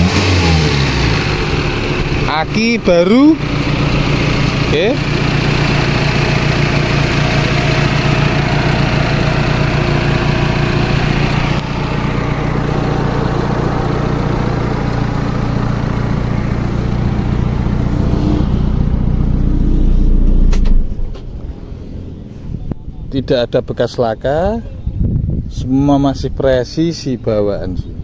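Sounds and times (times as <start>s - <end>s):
car engine idling: 0.0s - 25.1s.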